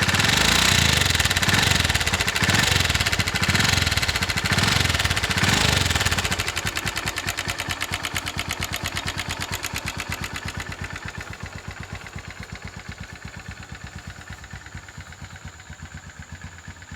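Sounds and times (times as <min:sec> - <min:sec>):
motorcycle engine idling with clatter: 0:00.0 - 0:16.9.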